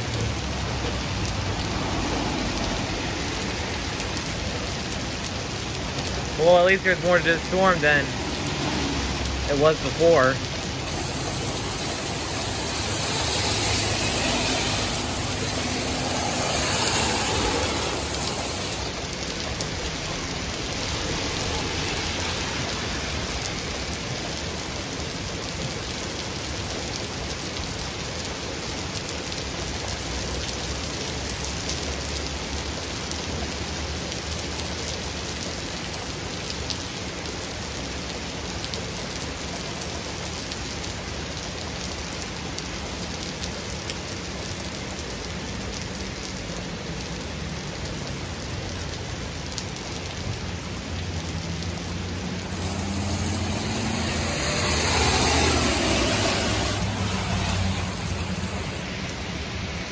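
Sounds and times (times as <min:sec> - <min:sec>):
heavy rain on street: 0:00.0 - 0:59.9.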